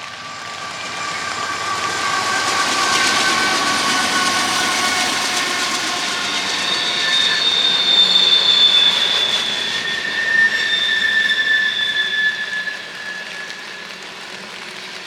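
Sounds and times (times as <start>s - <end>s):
rumble of train cars: 0.0s - 15.0s
train wheels squealing: 0.0s - 15.0s.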